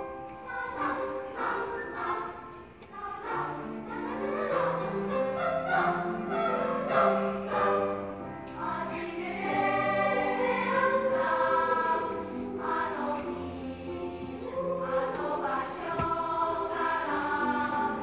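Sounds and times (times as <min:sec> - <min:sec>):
children's choir singing: 0:00.0 - 0:18.0.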